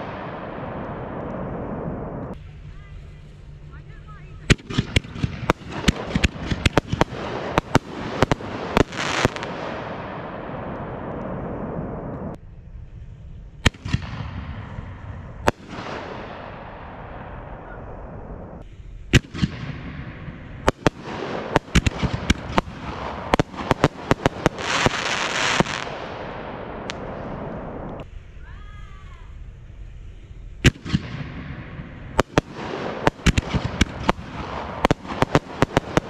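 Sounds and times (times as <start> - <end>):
fireworks bangs: 0.0 - 3.6, 4.4 - 12.4, 13.6 - 28.0, 30.6 - 36.0
fireworks crackling: 0.0 - 36.0.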